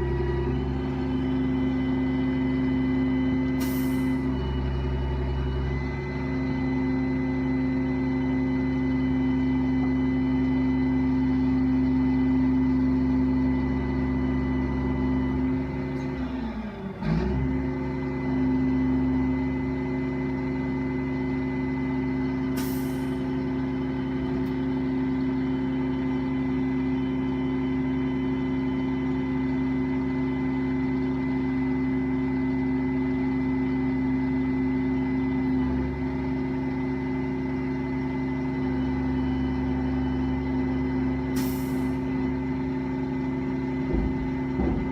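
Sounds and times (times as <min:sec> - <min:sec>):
truck engine humming: 0:00.0 - 0:16.4, 0:17.8 - 0:44.9.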